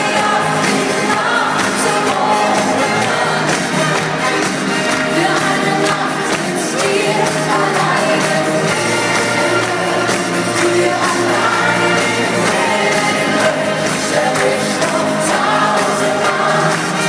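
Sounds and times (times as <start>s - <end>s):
live pop band playing: 0.0s - 17.0s
person singing: 0.0s - 17.0s.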